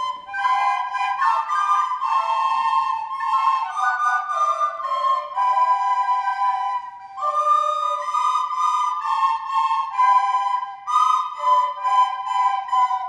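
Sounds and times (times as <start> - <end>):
children playing recorders: 0.0 - 13.0.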